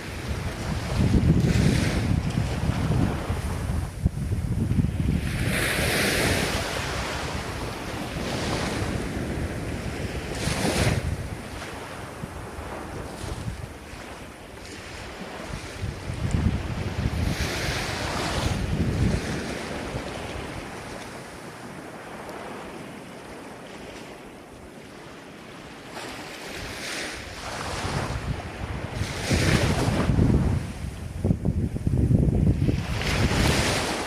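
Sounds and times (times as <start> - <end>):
ocean waves breaking: 0.0 - 34.0
wind buffeting microphone: 0.0 - 34.0.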